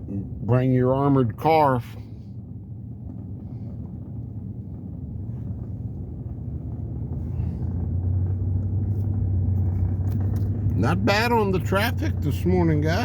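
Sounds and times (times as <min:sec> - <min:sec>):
steady low hum: 0:00.0 - 0:13.0
vehicle engine rumble: 0:00.0 - 0:13.0.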